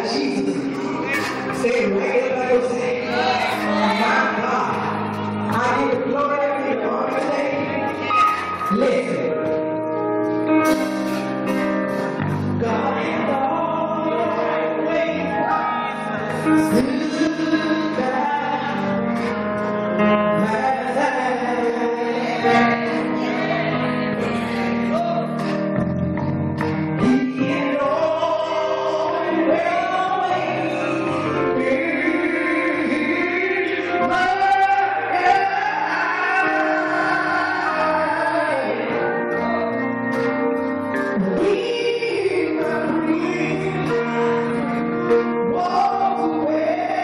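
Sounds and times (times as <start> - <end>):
gospel vocal group singing: 0.0 - 9.2, 12.4 - 19.4, 20.4 - 25.6, 27.0 - 39.9, 41.2 - 47.0.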